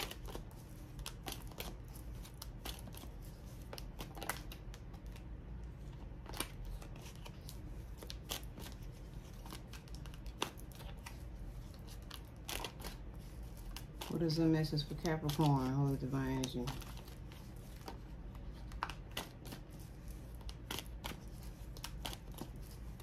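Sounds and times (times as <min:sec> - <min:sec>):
cards being shuffled by hand: 0:00.0 - 0:23.0
low steady hum: 0:00.0 - 0:23.0.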